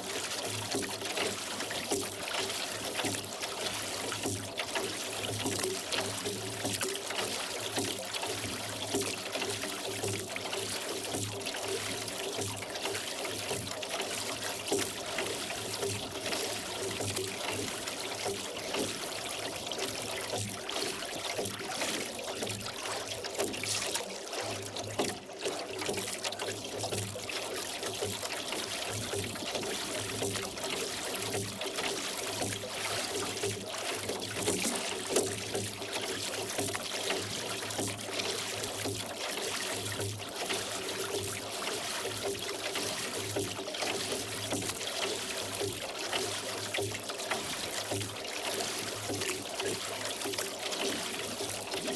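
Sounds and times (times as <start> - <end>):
oars pulling through water: 0.0 - 51.9
water trickling off oar blades: 0.0 - 51.9.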